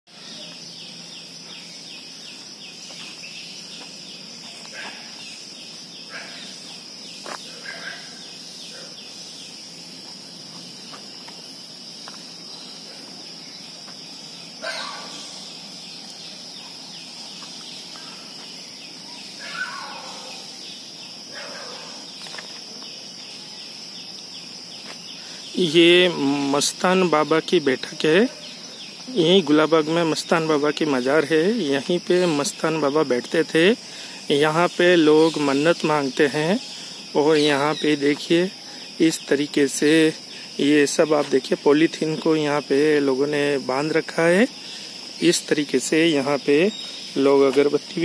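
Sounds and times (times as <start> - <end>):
birds calling: 0.1 - 48.0
insect chorus drone: 0.1 - 48.0.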